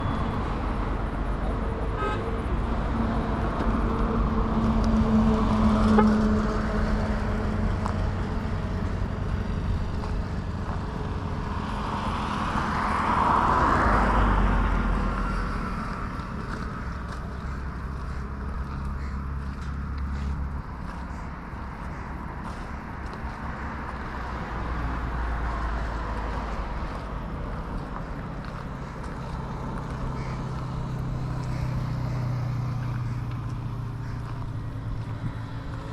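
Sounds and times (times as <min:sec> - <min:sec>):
road traffic engines humming: 0:00.0 - 0:35.9
vehicle passing: 0:00.0 - 0:35.9.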